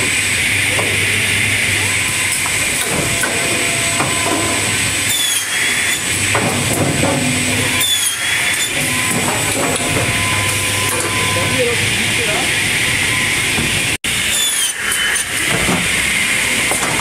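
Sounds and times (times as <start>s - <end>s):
machine humming: 0.0s - 17.0s
mechanical strokes with whine and hiss: 0.0s - 17.0s.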